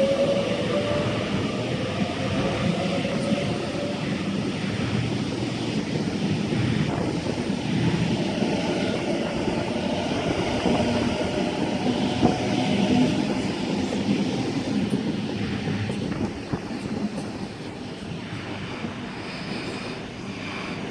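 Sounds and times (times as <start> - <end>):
rail noise: 0.0 - 20.9
train rumbling past: 0.0 - 20.9.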